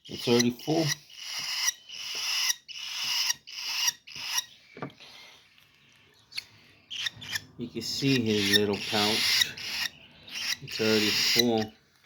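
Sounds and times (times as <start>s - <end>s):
baby birds raspy begging calls: 0.0s - 4.6s, 6.2s - 11.8s.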